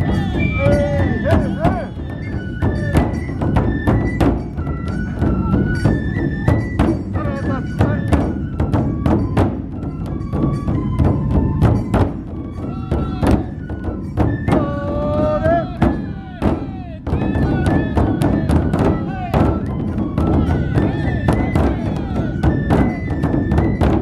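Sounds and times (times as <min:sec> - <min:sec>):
flute melody: 0:00.0 - 0:24.0
large drum beating: 0:00.0 - 0:24.0.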